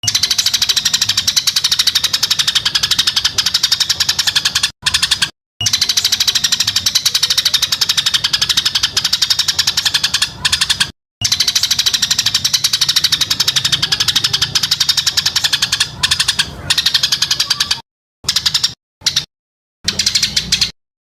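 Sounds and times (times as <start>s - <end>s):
recorded chattering bird trill: 0.0s - 20.8s.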